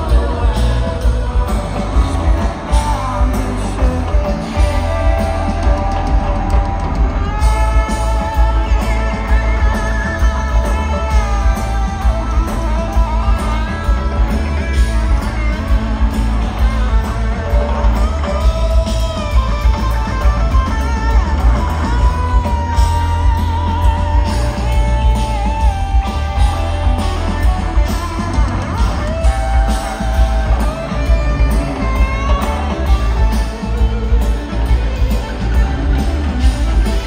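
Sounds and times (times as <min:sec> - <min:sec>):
bass guitar: 0:00.0 - 0:37.0
drums: 0:00.0 - 0:37.0
electric guitar lead: 0:00.0 - 0:37.0.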